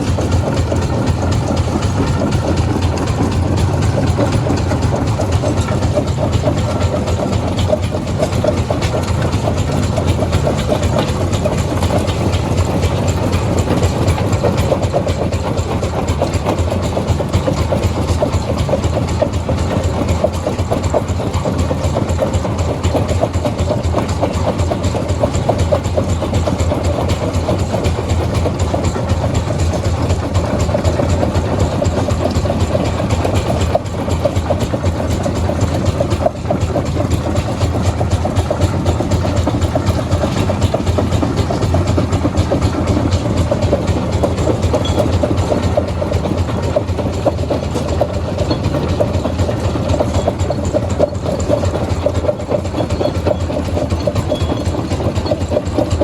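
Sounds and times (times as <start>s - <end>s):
heavy machinery droning and rattling: 0.0s - 56.0s.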